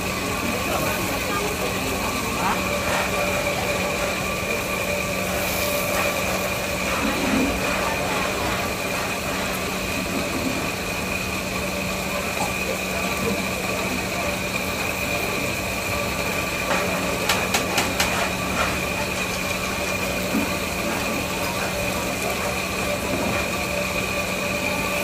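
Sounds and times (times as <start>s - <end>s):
machine hum and whine: 0.0s - 25.0s.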